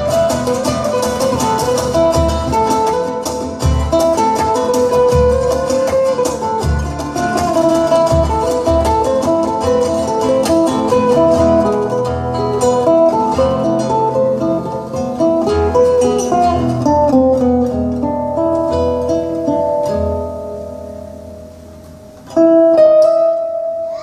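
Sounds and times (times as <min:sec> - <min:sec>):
ukulele played fast: 0:00.0 - 0:24.0.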